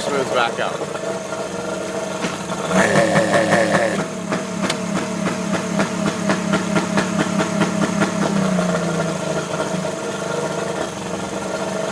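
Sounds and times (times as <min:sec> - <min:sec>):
outboard engine idling and misfiring: 0:00.0 - 0:11.9.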